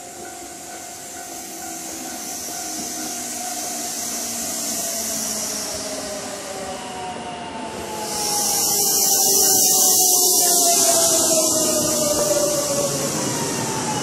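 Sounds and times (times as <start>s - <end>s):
wheels hissing on rail: 0.0s - 14.0s.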